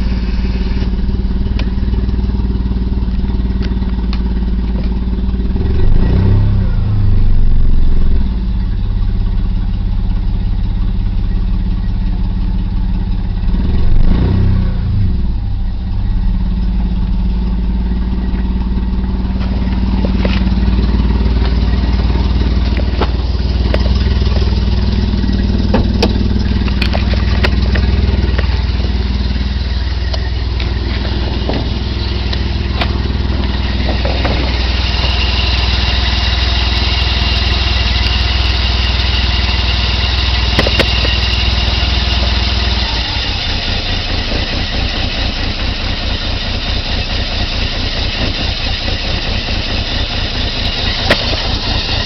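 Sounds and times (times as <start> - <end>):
engine revving: 0.0 - 8.6, 13.3 - 52.0
car engine idling roughly: 0.0 - 52.0.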